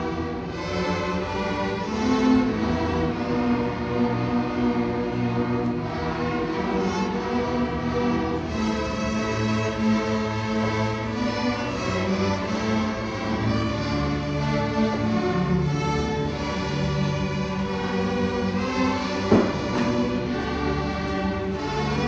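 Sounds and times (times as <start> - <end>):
string orchestra sustained chords: 0.0 - 22.0.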